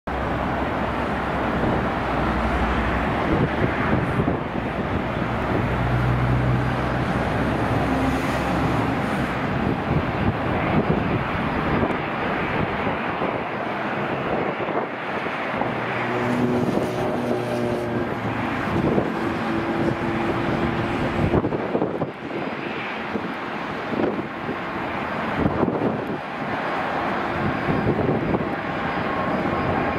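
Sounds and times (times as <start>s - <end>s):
jet engines at takeoff: 0.1s - 29.9s.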